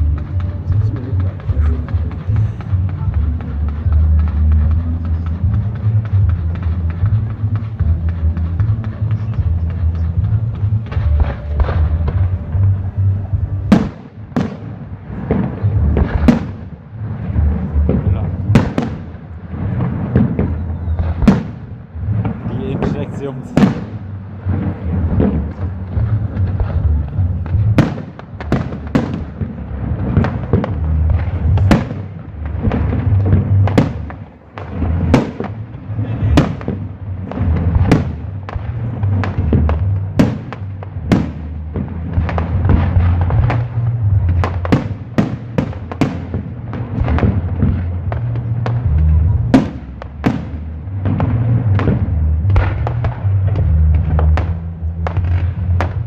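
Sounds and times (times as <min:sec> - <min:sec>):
continuous low rumble: 0:00.0 - 0:56.0
firecrackers banging: 0:00.0 - 0:56.0.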